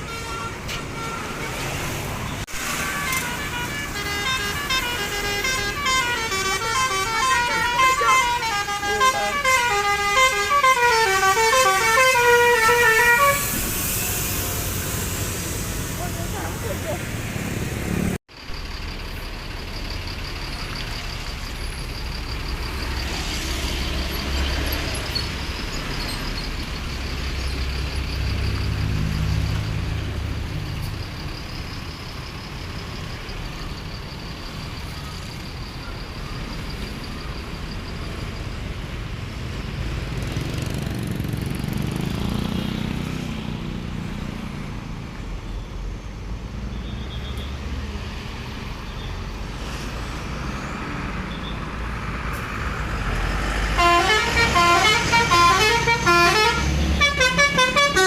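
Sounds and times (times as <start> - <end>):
buses passing by: 0.0 - 58.0
traffic noise: 0.0 - 58.0.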